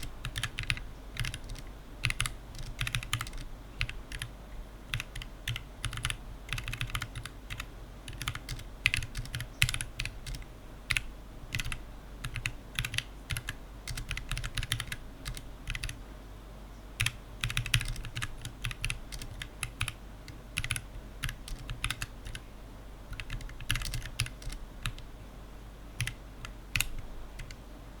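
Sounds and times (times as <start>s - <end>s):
fast keyboard typing: 0.0s - 4.3s, 4.9s - 16.0s, 17.0s - 22.4s, 23.1s - 25.0s, 26.0s - 27.6s.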